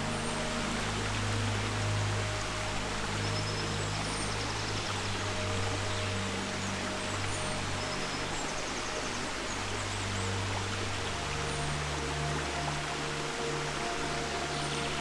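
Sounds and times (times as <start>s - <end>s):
forest stream rushing: 0.0s - 15.0s
soft background music: 0.0s - 15.0s.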